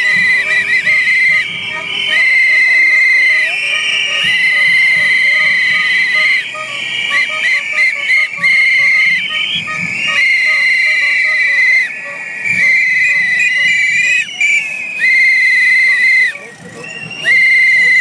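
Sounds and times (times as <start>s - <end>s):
pea whistles blowing: 0.0s - 18.0s.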